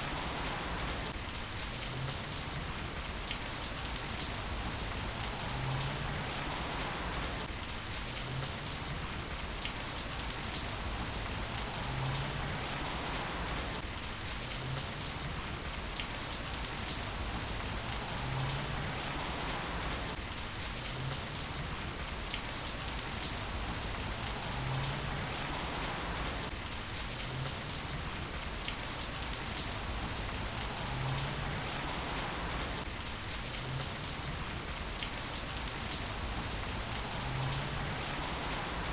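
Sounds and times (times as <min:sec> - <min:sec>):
heavy rain on hard surfaces: 0:00.0 - 0:38.9.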